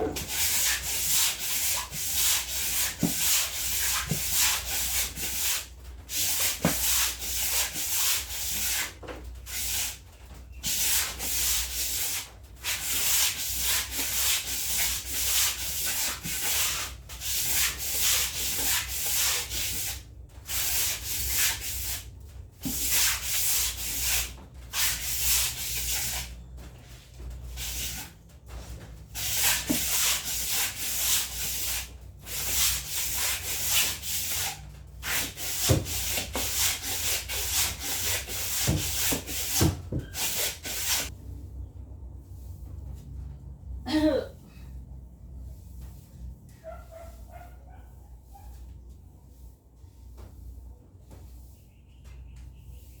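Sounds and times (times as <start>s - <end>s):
hand scrubbing a surface: 0.1s - 10.0s, 10.6s - 22.0s, 22.6s - 41.1s, 45.3s - 51.8s.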